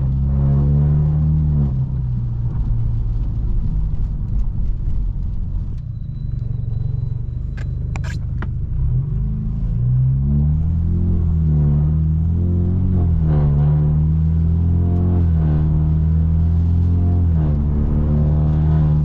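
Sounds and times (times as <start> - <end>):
car exhaust rumble: 0.0 - 19.0.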